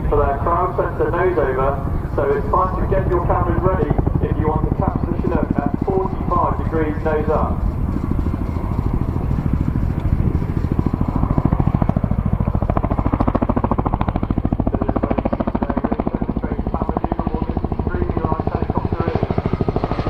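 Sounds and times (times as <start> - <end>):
helicopter rotor blade slap: 0.0 - 20.0.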